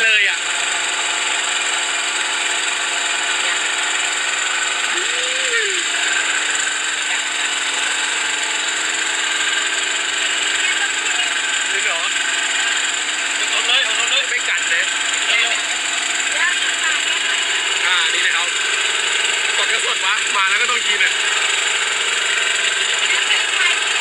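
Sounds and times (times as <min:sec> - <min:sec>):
boat machinery droning: 0:00.0 - 0:24.0.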